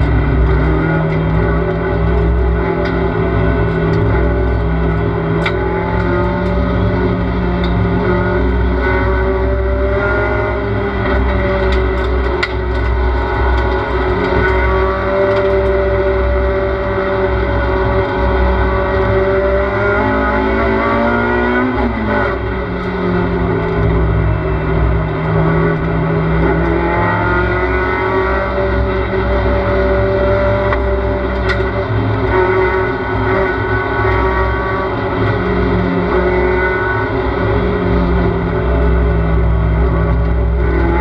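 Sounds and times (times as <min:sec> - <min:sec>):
race car engine at high revs: 0:00.0 - 0:41.0.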